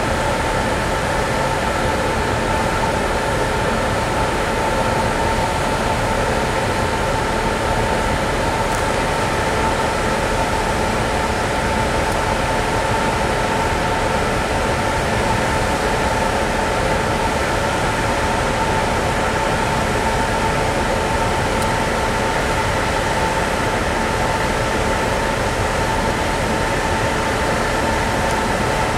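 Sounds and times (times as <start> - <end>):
ship machinery and ventilation rush: 0.0 - 28.9.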